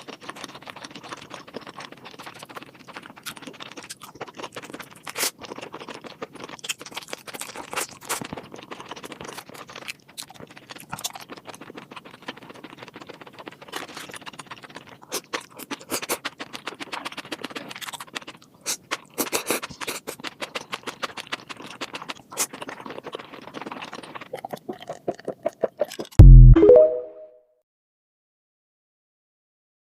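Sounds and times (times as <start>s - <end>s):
wet chewing with crunches: 0.0s - 26.3s.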